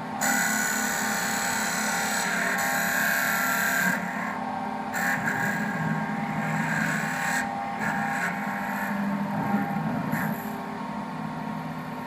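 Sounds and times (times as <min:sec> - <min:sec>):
high cutting whine: 0:00.0 - 0:12.0
lathe motor hum: 0:00.0 - 0:12.0.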